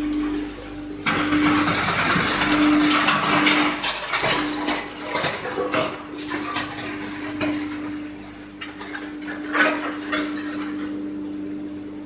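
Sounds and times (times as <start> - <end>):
wood chipper humming: 0.0 - 12.0.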